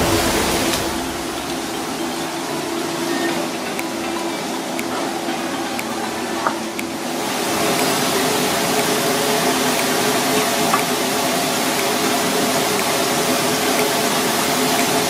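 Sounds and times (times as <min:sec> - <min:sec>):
pot simmering hiss: 0:00.0 - 0:15.0.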